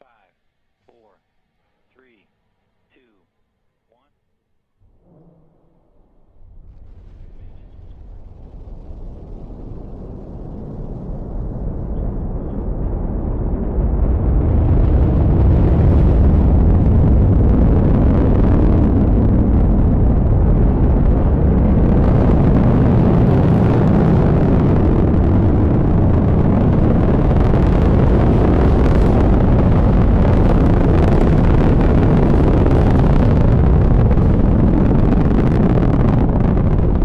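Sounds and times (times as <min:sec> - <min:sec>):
rocket engines rumbling: 0:04.8 - 0:37.0.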